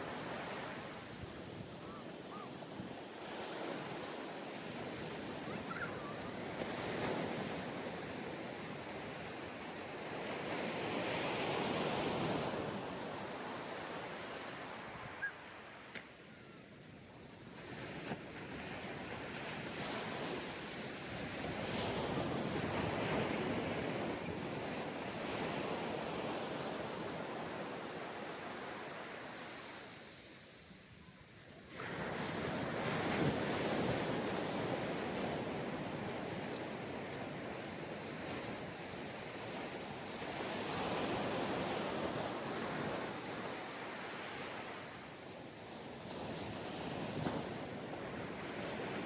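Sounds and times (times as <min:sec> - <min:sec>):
ocean waves breaking on beach: 0:00.0 - 0:49.0.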